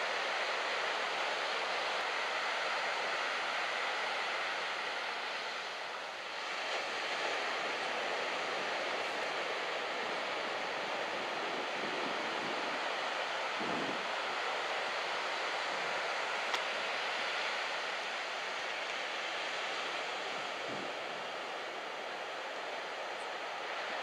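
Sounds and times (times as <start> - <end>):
waves breaking on shore: 0.0 - 24.0.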